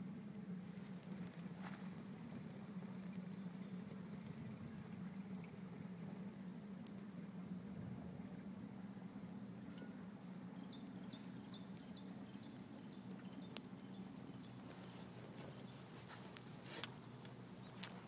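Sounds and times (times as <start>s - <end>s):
boat motor humming: 0.1s - 18.0s.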